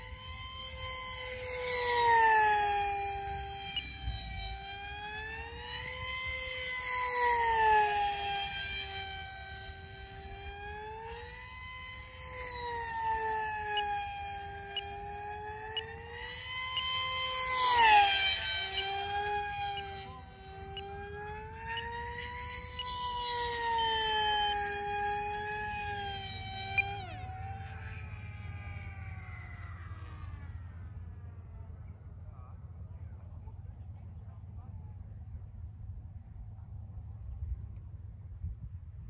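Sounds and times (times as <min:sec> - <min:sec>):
model jet electric motor whining: 0:00.0 - 0:32.8.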